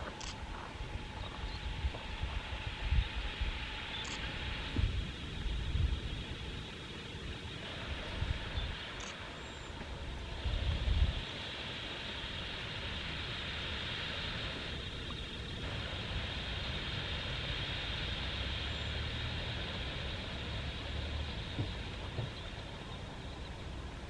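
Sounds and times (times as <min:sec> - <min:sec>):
flock of birds in flight: 0:00.0 - 0:24.0
wind on microphone: 0:00.0 - 0:24.0.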